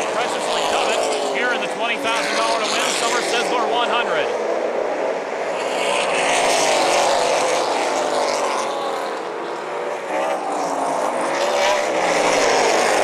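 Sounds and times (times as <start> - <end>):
race cars passing: 0.0 - 13.0.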